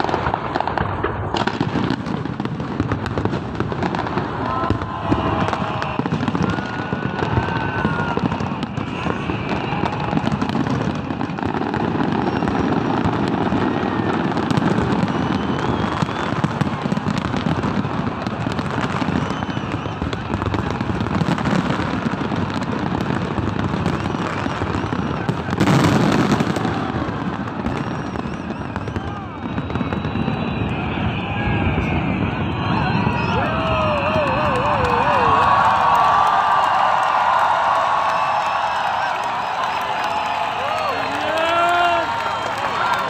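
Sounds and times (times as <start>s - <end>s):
loud firework burst: 0.0s - 41.1s
fireworks crackling and popping: 0.0s - 43.0s.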